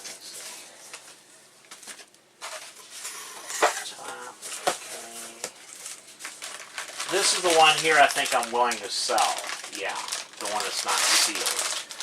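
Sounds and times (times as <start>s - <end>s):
packaging rustling: 1.7s - 12.0s.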